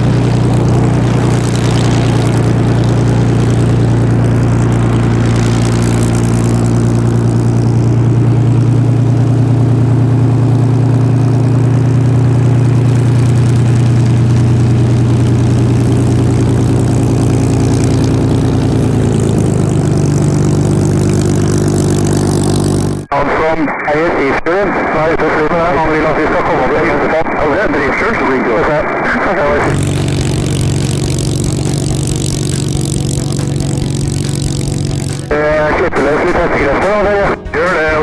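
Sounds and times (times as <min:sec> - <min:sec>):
aircraft engine droning: 0:00.0 - 0:23.1, 0:29.2 - 0:38.0.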